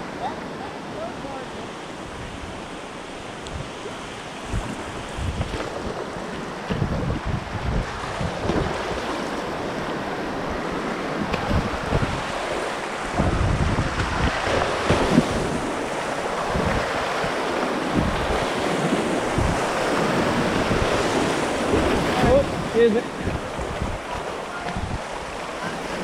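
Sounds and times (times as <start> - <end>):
river rapids roaring: 0.0 - 26.0
wind buffeting microphone: 1.0 - 26.0.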